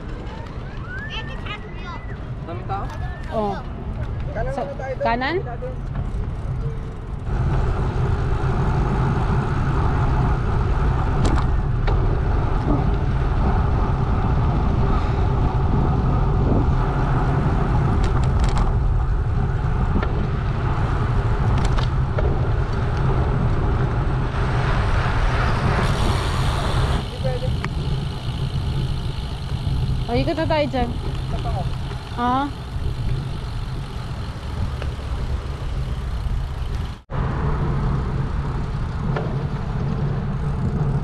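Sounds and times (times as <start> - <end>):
bike tyre rumble: 0.0 - 41.0
wind noise on microphone: 0.0 - 41.0.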